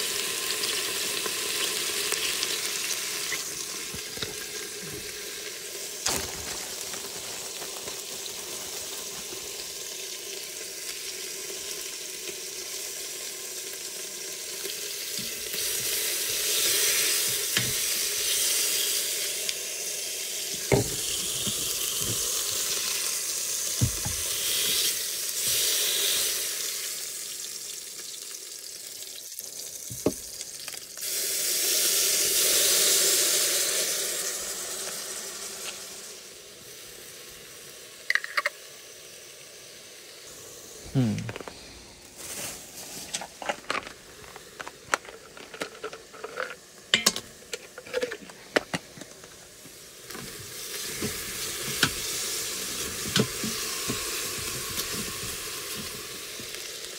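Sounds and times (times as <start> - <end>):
meat sizzling in a pot: 0.0 - 56.9
water hissing in hot pot: 0.0 - 56.9.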